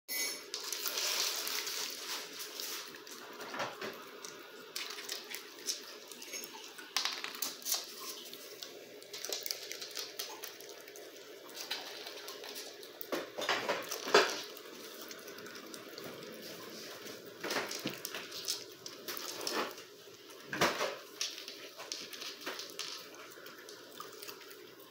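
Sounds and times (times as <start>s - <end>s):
raccoon crunching peanuts: 0.6s - 24.9s.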